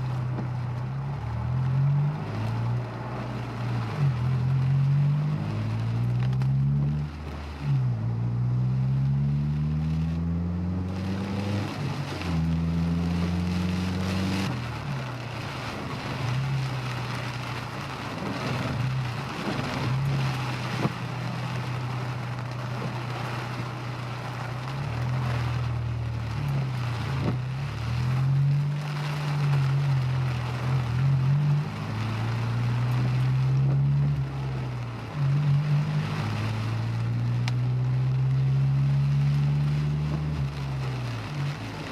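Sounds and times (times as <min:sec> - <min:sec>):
car engine revving: 0:00.0 - 0:41.9
road and wind noise in rain: 0:00.0 - 0:41.9.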